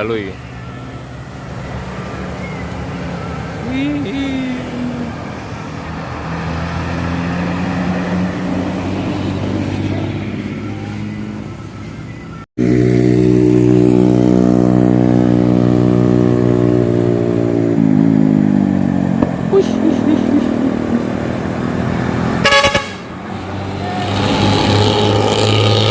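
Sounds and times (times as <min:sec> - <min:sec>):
bus diesel engine pulling: 0:00.0 - 0:25.9.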